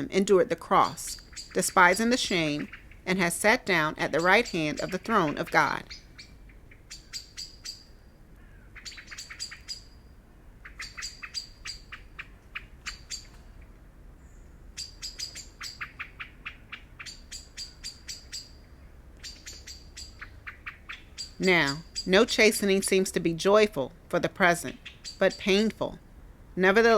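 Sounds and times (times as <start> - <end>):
songbirds chirping: 0.0 - 26.9.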